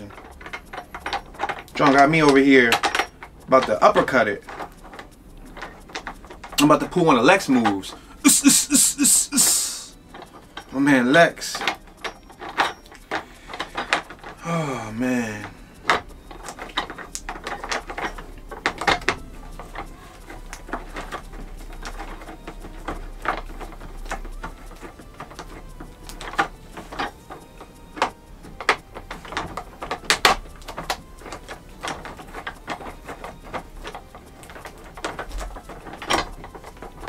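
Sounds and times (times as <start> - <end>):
chair parts clicking: 0.0 - 37.0
chair parts knocking: 0.0 - 37.0.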